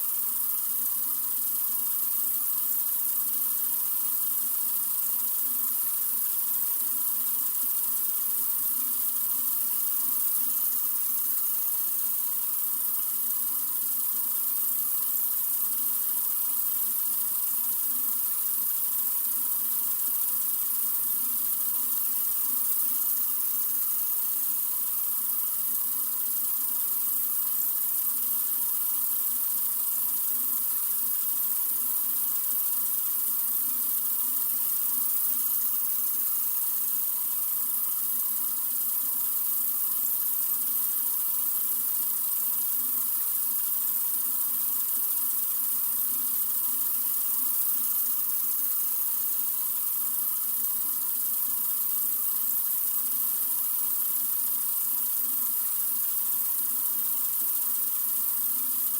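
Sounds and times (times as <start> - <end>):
water running from faucet: 0.0 - 58.9.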